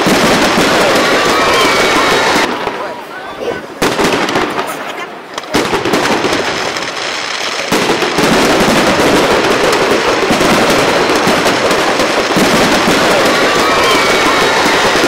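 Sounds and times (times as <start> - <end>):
fireworks bursting with crackling: 0.0 - 15.0.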